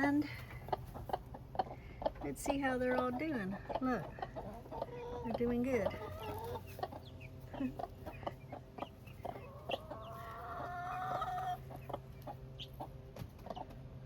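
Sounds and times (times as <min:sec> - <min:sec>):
hen clucking: 0:00.0 - 0:14.0
keets peeping: 0:00.0 - 0:14.0.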